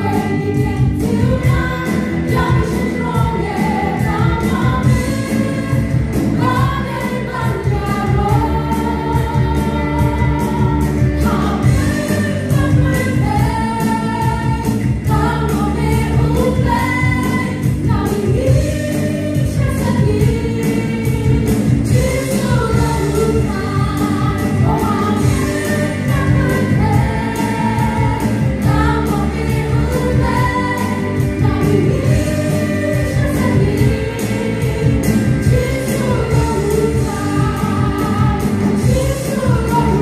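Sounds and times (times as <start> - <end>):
band with drums and guitars: 0.0 - 40.0
women singing together: 0.0 - 40.0.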